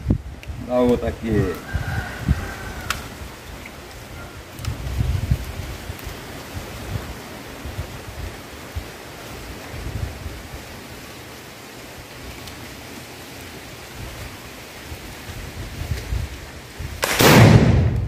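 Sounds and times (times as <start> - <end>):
wind buffeting microphone: 0.0 - 11.0, 13.8 - 18.0
steady outdoor hiss: 0.0 - 18.0.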